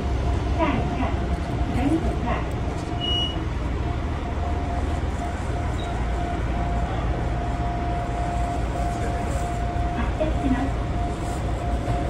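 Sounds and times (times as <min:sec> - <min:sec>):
steady train whine: 0:00.0 - 0:12.0
train wheels rumbling on rails: 0:00.0 - 0:12.0.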